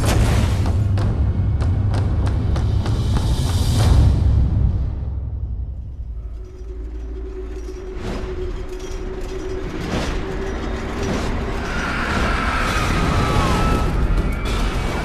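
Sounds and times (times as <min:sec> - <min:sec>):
mechanical rumbling and creaking: 0:00.0 - 0:15.0.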